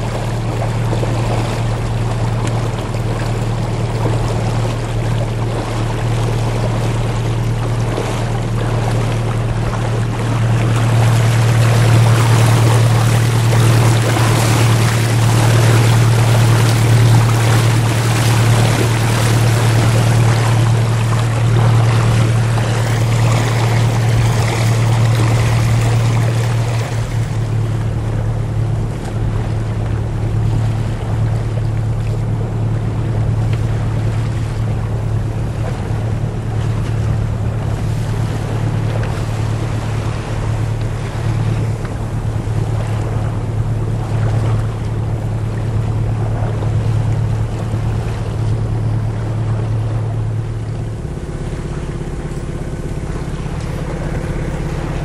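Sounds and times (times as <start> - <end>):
low hum: 0.0 - 55.0
water splashing along hull: 0.0 - 55.0.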